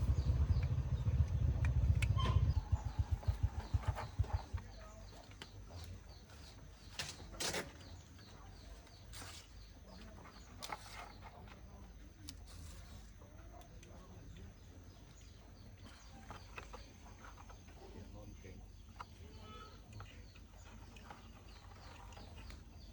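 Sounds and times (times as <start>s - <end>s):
faint bird chirps: 0.0s - 22.9s.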